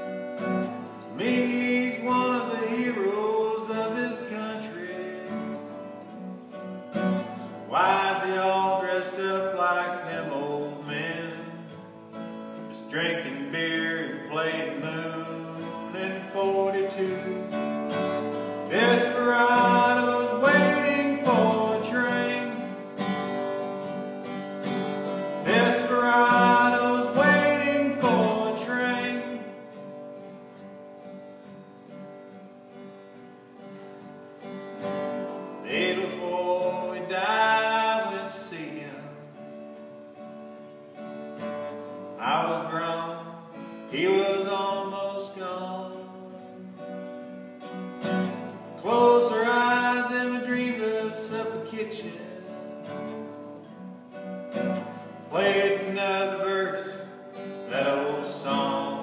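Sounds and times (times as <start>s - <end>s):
acoustic guitar strumming and picking: 0.0s - 59.0s.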